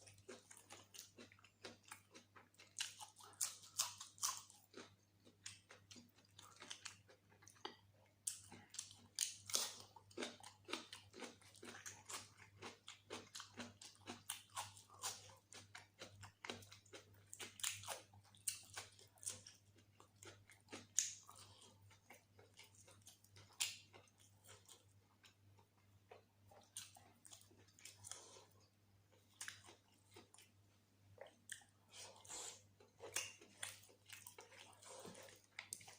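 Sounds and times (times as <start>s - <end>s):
mouth chewing and smacking: 0.0s - 30.6s, 31.2s - 35.9s.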